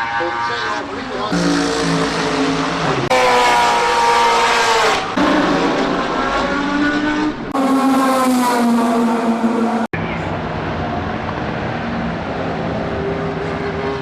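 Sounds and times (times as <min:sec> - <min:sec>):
racing car engines at high revs: 0:00.0 - 0:14.0.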